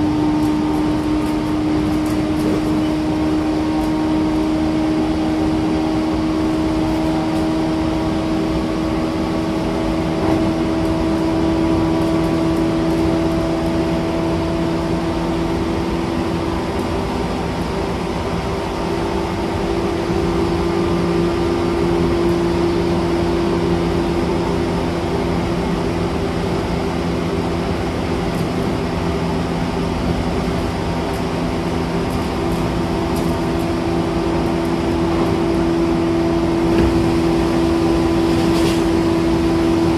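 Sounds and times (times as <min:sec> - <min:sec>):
traction motor hum: 0:00.0 - 0:39.9
train wheels rolling on rails: 0:00.0 - 0:39.9.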